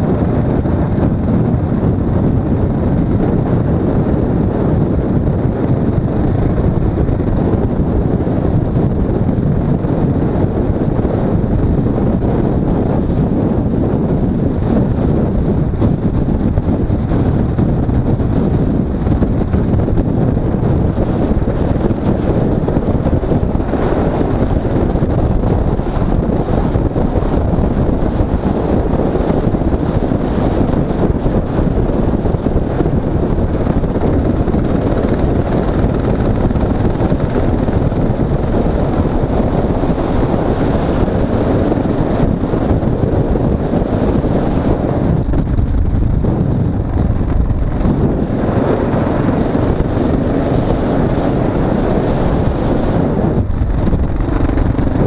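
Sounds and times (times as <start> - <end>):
motorcycle running: 0.0 - 55.0
wind on microphone: 0.0 - 55.0.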